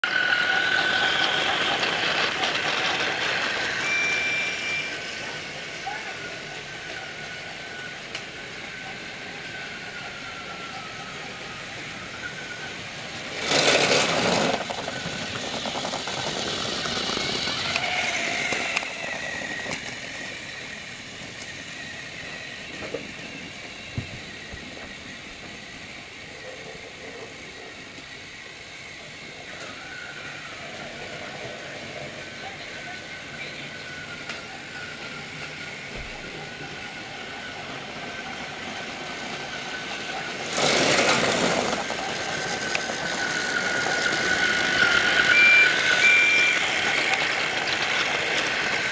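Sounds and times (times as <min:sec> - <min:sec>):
toy train motor whirring: 0:00.1 - 0:48.9.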